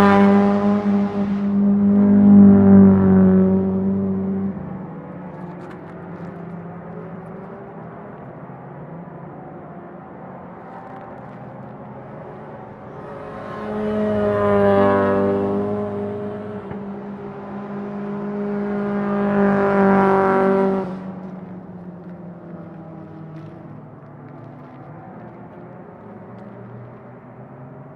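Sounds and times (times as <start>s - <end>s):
distant engines droning: 0.0s - 27.9s
race car passing at high revs: 0.0s - 27.9s.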